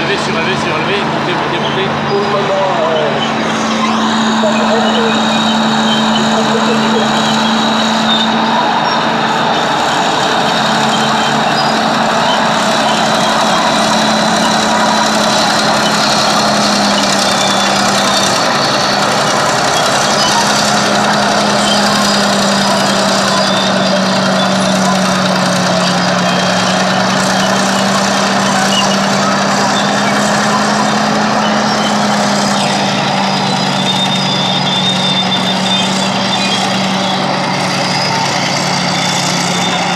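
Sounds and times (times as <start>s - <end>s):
diesel engine labouring: 0.0s - 39.9s.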